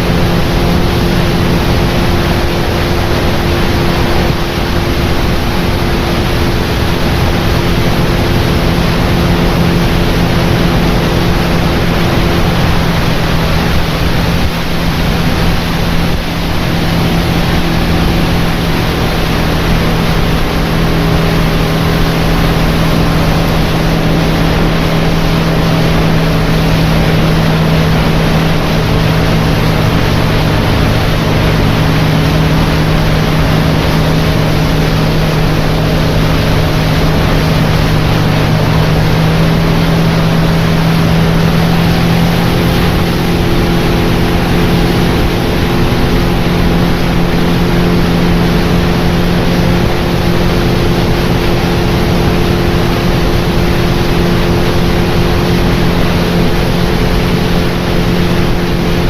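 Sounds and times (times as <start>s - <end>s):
outboard motor running: 0.0s - 59.0s
rushing noise: 0.0s - 59.0s.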